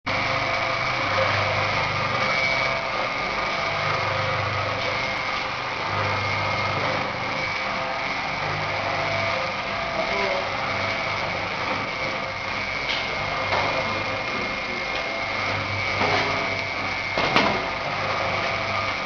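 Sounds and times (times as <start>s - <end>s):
roasting machine humming and whining: 0.1s - 19.0s.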